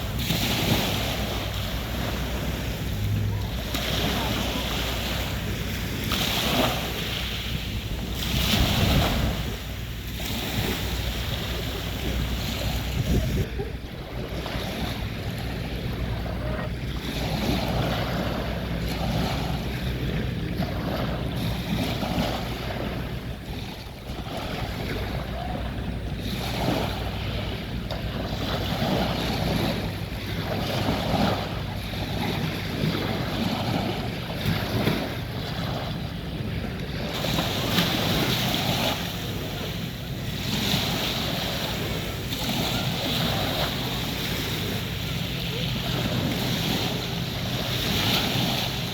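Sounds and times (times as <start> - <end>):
waves washing on a beach: 0.0 - 48.9
wind rumbling on microphone: 0.0 - 48.9.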